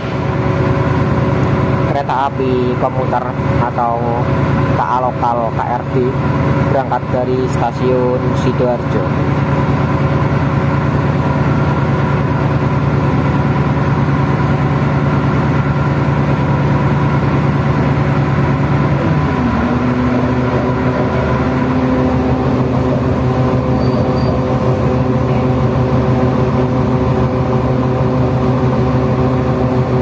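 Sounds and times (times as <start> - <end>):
train diesel engine running: 0.0 - 30.0.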